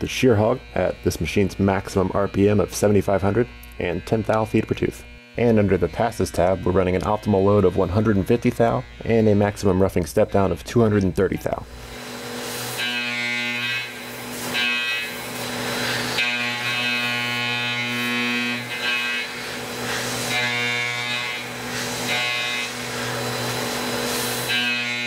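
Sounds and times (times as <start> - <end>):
cutter whine on metal: 0.0 - 25.0
milling machine spindle hum: 0.0 - 25.0.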